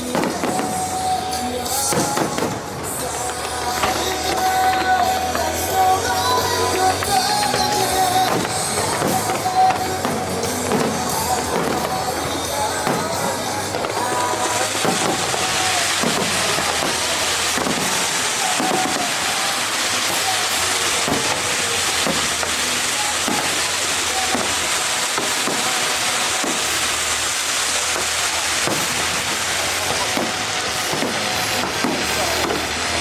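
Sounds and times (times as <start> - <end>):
firework bursts: 0.0 - 33.0
fireworks crackling hiss: 0.0 - 33.0.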